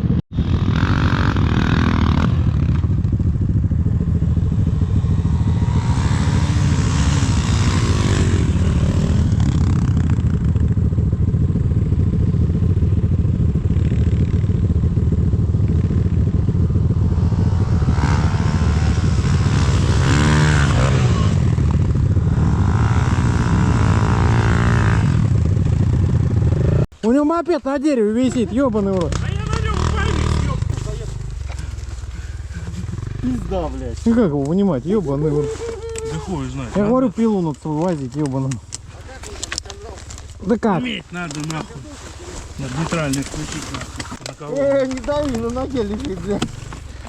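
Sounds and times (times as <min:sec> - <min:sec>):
dirt bike engine revving: 0:00.0 - 0:26.9, 0:28.2 - 0:47.0.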